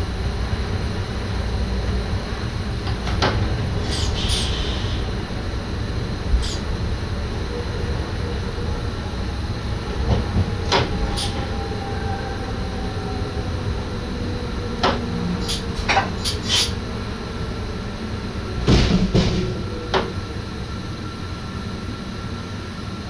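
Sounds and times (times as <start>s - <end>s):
train running rumble: 0.0s - 23.0s.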